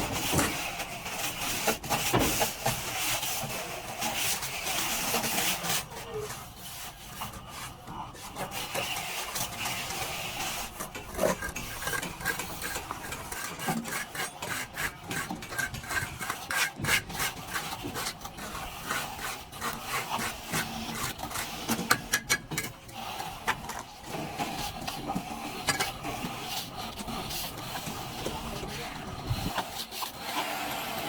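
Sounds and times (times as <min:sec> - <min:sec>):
trowel scraping wet plaster: 0:00.0 - 0:31.0.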